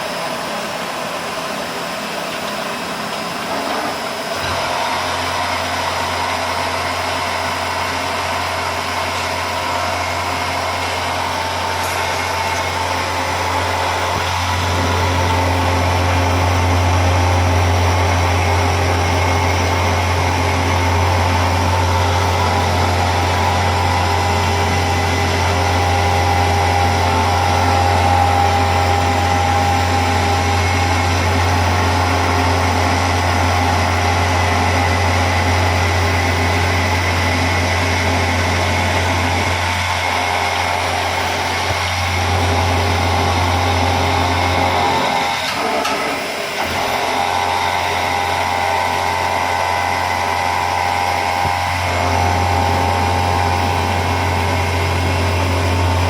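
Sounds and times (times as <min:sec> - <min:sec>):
milling machine running: 0:00.0 - 0:56.0.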